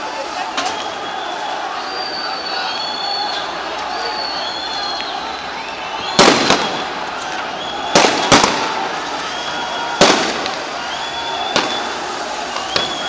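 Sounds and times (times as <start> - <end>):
steady background din: 0.0 - 13.0.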